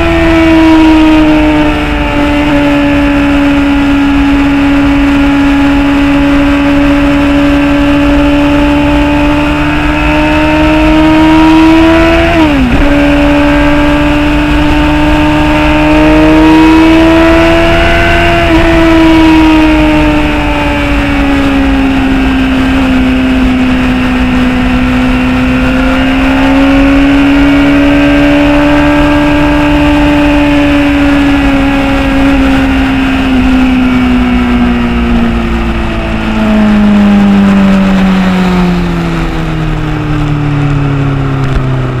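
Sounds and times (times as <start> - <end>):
motorcycle engine running: 0.0 - 42.0
wind rushing over microphone: 0.0 - 42.0.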